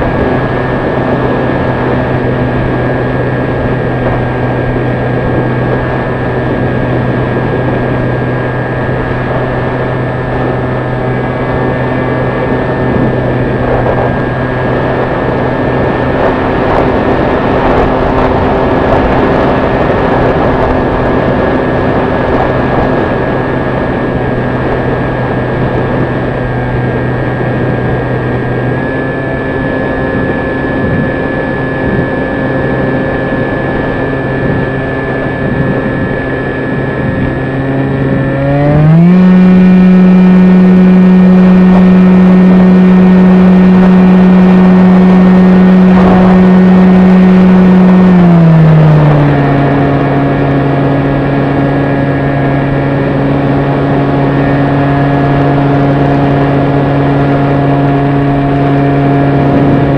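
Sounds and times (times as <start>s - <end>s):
electric motor propeller whine: 0.0s - 59.9s
rushing airflow noise: 0.0s - 59.9s.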